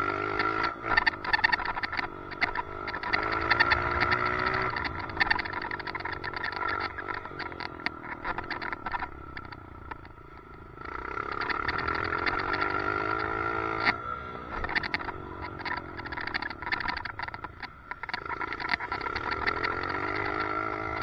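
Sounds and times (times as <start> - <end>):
dirt bike engine revving: 0.0 - 21.0
fast clicking rattle: 0.0 - 21.0.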